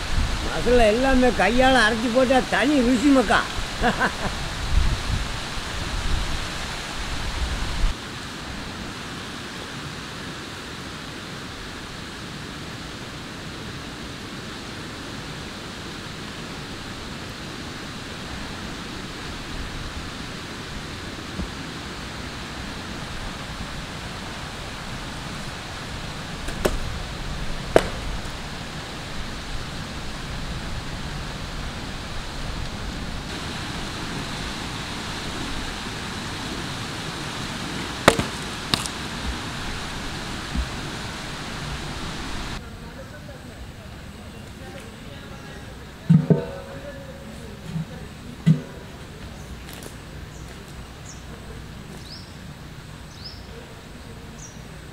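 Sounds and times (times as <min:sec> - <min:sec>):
background hiss: 0:00.0 - 0:54.9.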